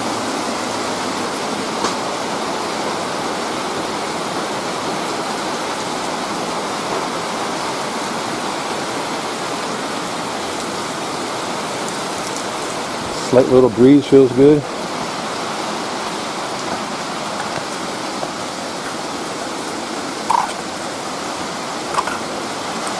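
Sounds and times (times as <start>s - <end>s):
rain shower hissing: 0.0s - 22.9s.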